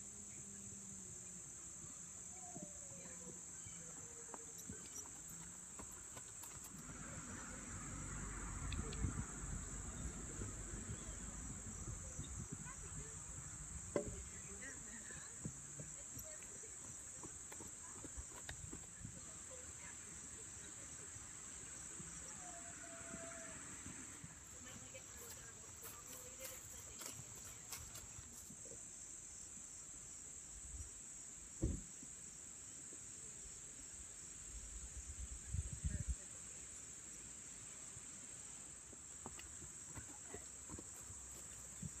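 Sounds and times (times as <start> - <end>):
crickets chirring: 0.0 - 42.0.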